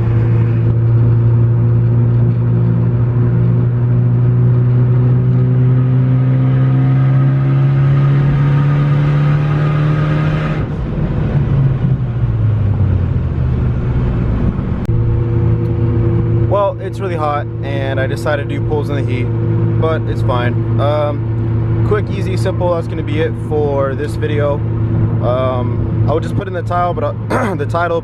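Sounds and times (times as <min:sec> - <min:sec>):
car engine at full throttle: 0:00.0 - 0:28.0.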